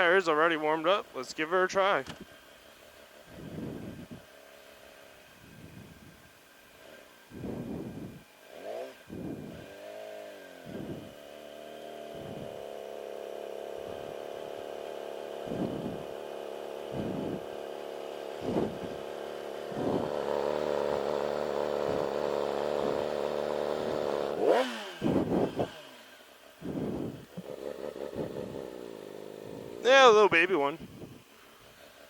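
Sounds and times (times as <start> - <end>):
motorcycle engine revving: 2.2 - 32.0.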